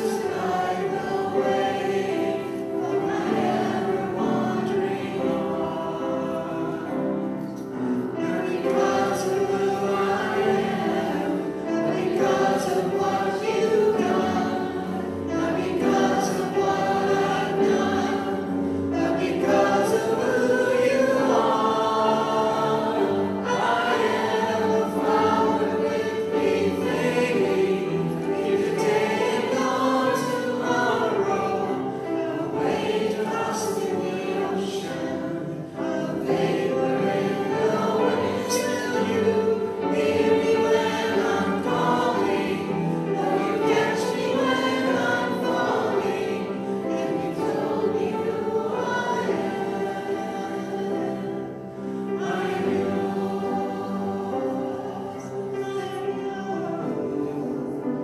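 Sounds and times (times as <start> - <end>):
man and woman singing: 0.0 - 7.4, 8.1 - 58.0.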